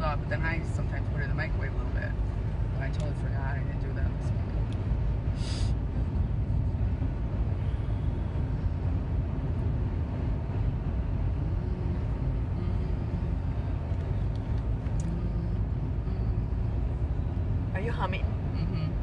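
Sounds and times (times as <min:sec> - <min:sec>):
car engine rumble: 0:00.0 - 0:19.0
tyres on snowy road: 0:00.0 - 0:19.0.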